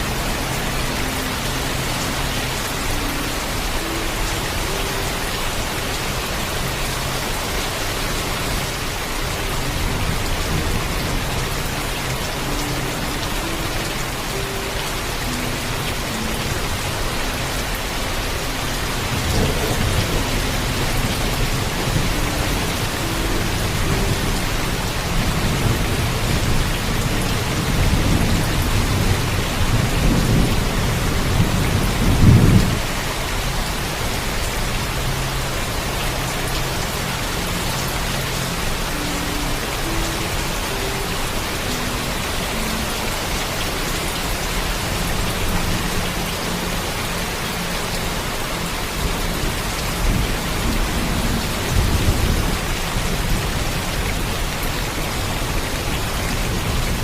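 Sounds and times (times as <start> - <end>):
heavy rainfall: 0.0 - 57.0.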